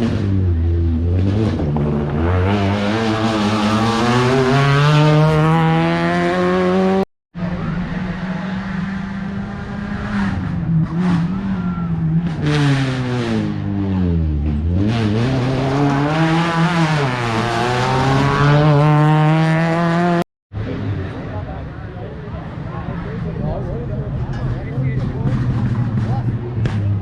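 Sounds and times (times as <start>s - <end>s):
rally car engine revving: 0.0s - 21.6s, 23.2s - 27.0s.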